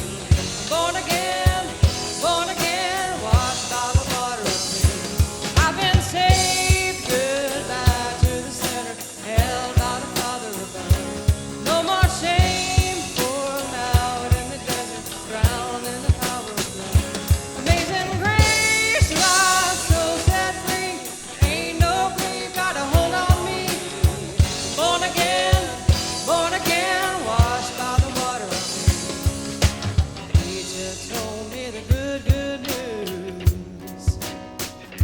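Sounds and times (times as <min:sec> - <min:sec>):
person singing: 0:00.0 - 0:34.5
drum kit beat: 0:00.0 - 0:35.0
rock band music: 0:00.0 - 0:35.0.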